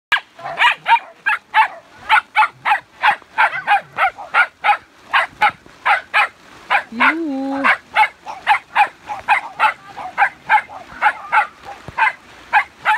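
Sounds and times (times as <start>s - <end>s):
small dog yapping: 0.1s - 12.9s.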